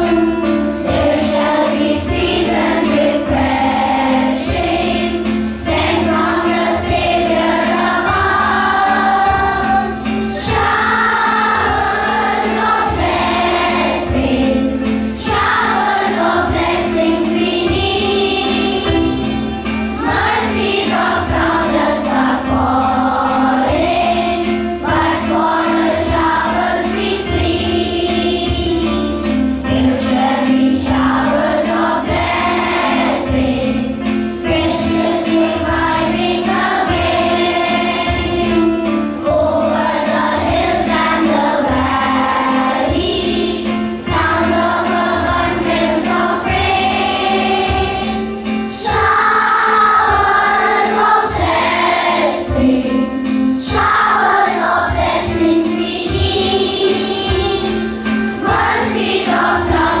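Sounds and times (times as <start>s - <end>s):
children singing together: 0.0s - 60.0s
instrumental accompaniment: 0.0s - 60.0s.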